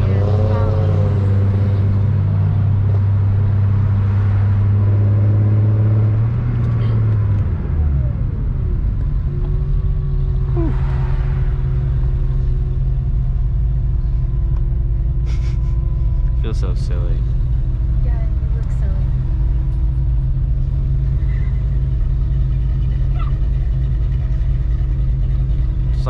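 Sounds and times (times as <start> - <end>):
car engine hum in cabin: 0.0 - 26.0
road noise: 0.0 - 26.0.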